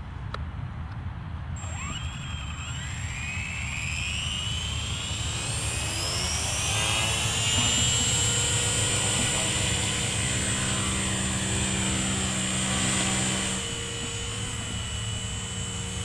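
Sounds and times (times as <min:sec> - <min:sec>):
helicopter rotor whine: 0:01.6 - 0:16.0.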